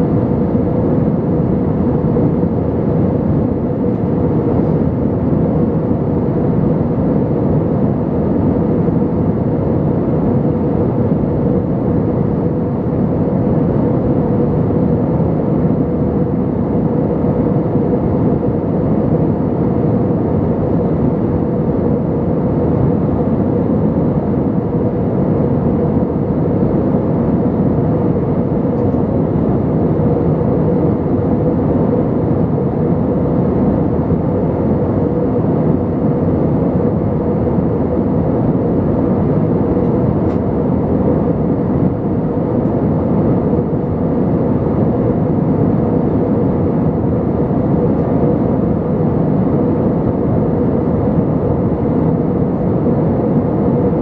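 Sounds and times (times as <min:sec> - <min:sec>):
airplane engines roaring: 0:00.0 - 0:54.0.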